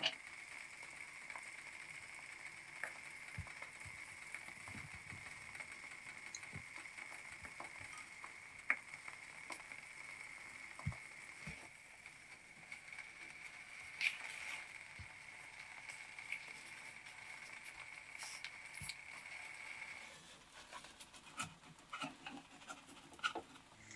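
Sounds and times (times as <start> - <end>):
eggs crackling in frying pan: 0.0 - 23.9.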